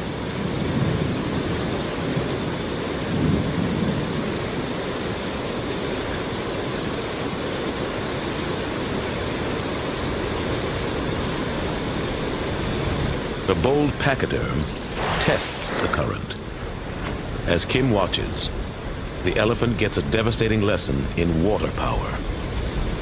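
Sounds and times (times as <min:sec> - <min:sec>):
heavy rain hiss: 0:00.0 - 0:23.0.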